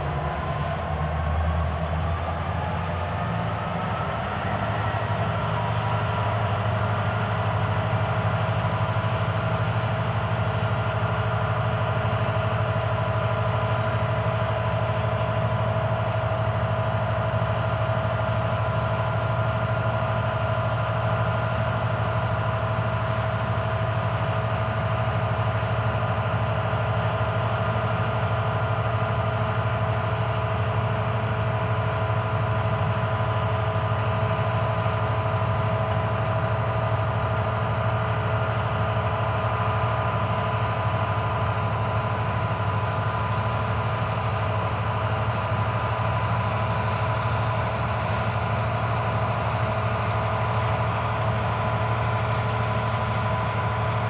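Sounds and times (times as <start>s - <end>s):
diesel locomotives under load: 0.0s - 54.0s.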